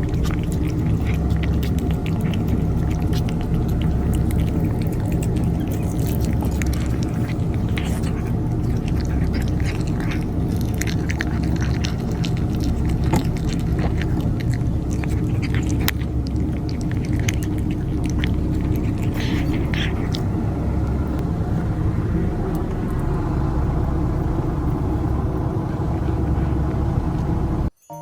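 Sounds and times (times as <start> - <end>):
cats chewing food: 0.0 - 27.7
steady low rumble: 0.0 - 27.7.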